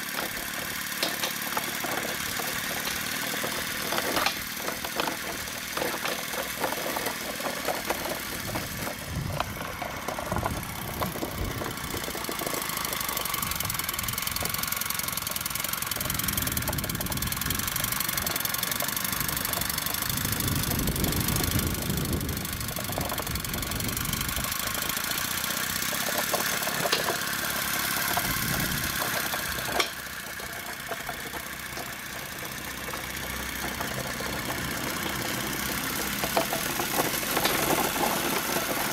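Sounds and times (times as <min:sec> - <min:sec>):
steam engine exhaust beating: 0:00.0 - 0:38.9
trolley rumbling over paving: 0:00.0 - 0:38.9.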